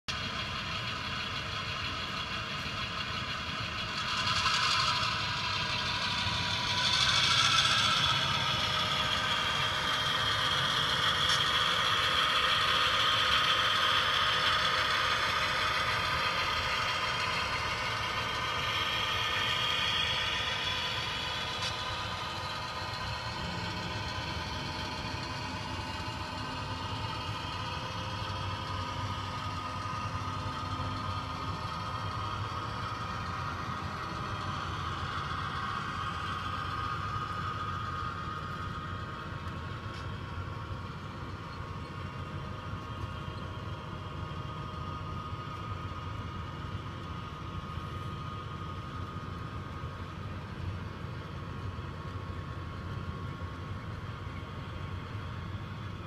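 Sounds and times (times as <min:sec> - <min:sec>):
model cars rolling on track: 0:00.1 - 0:56.0
model train motor hum and whine: 0:00.1 - 0:56.0.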